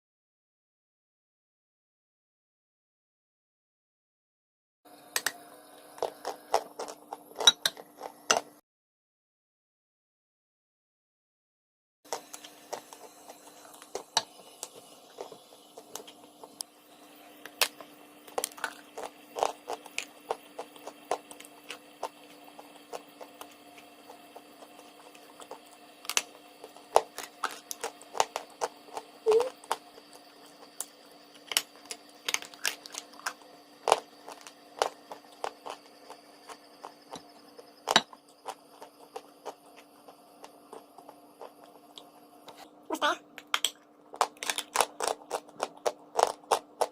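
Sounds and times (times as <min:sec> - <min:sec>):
faint steady hum: 0:04.9 - 0:08.6, 0:12.1 - 0:46.9.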